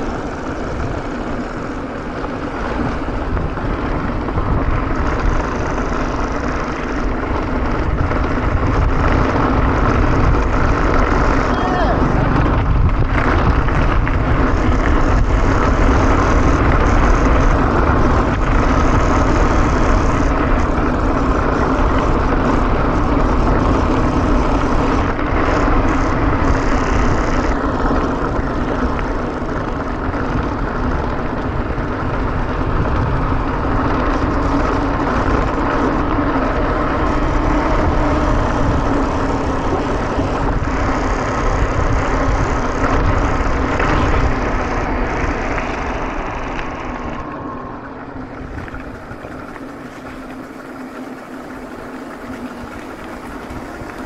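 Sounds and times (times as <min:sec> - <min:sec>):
mountain bike rumbling and rattling: 0:00.0 - 0:54.0
wind buffeting microphone: 0:00.0 - 0:54.0.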